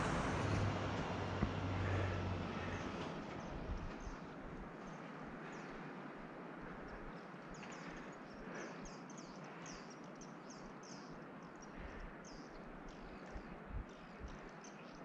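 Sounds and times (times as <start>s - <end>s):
small birds chirping: 1.6s - 15.0s.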